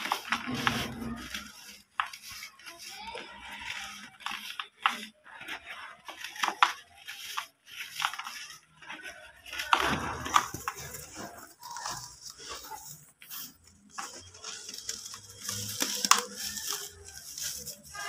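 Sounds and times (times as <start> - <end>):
hands crushing dry dirt clumps: 0.0 - 18.0.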